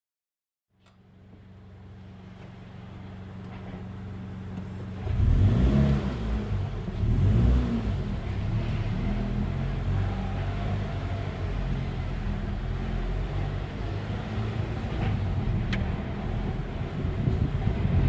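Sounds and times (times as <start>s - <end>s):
car engine idling and revving: 1.0s - 18.0s.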